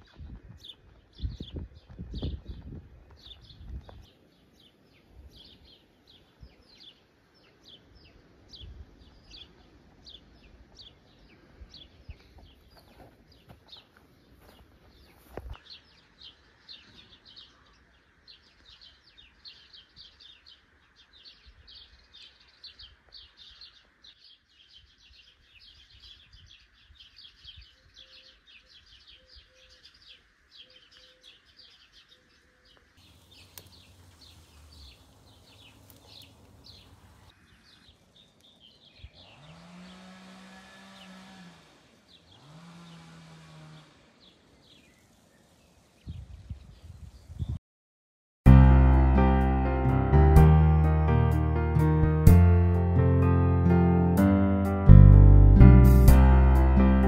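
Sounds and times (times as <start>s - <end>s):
birds chirping: 0.0s - 47.6s.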